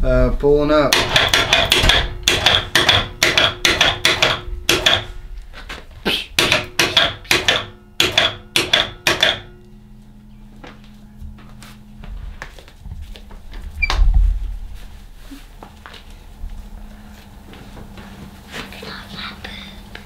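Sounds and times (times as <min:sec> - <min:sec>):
faint motor hum: 0:00.0 - 0:20.0.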